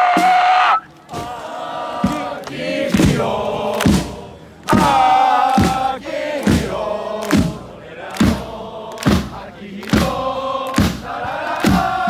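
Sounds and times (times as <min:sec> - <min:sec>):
crowd chanting in unison: 0:01.1 - 0:12.0
crowd clapping: 0:01.8 - 0:12.0.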